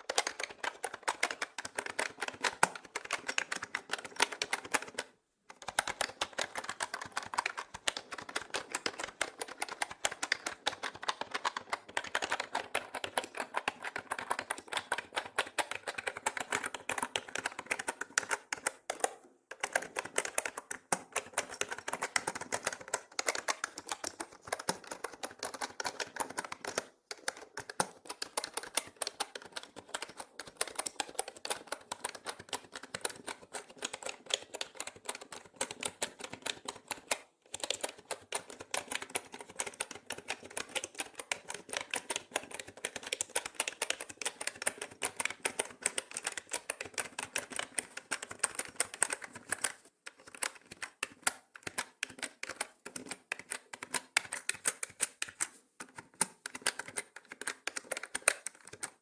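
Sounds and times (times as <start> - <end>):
typing on mechanical keyboard: 0.0 - 59.0.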